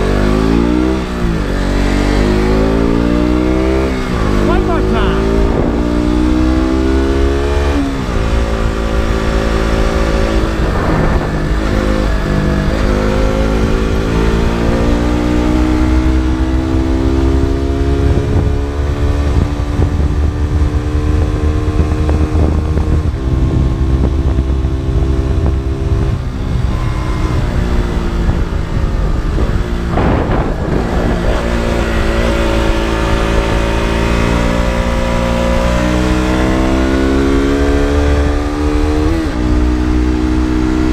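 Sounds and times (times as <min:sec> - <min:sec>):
low wind rumble: 0:00.0 - 0:40.9
motorcycle engine accelerating: 0:00.0 - 0:40.9.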